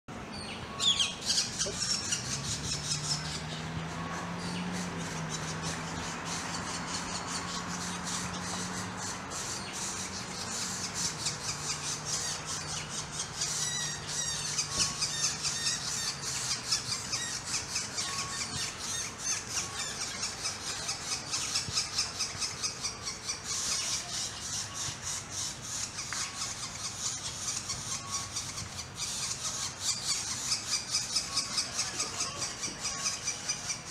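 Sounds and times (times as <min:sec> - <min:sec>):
nestlings begging calls: 0:00.3 - 0:33.9.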